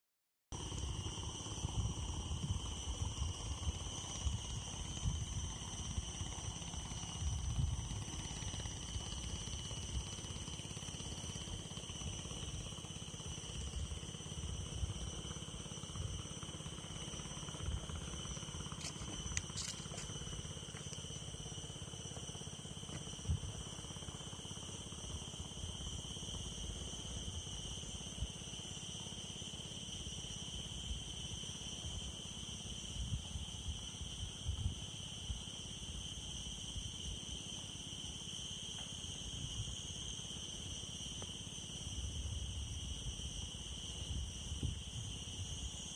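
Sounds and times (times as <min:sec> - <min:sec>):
insects chirring: 0:00.6 - 0:45.9.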